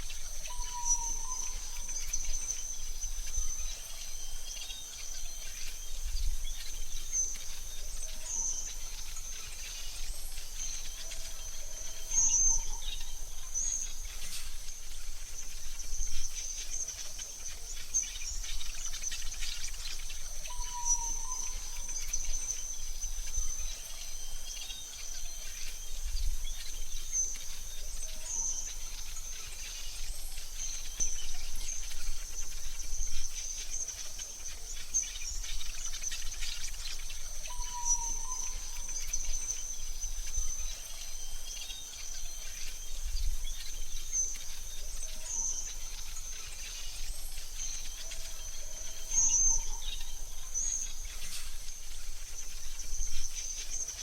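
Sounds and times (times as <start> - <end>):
bird chirps: 0.0 - 54.0
high-pitched insect drone: 0.0 - 54.0.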